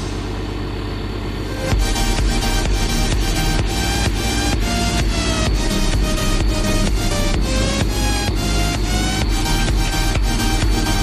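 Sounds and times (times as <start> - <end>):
electronic dance music: 1.5 - 11.0
heavy kick-drum beat: 1.6 - 11.0.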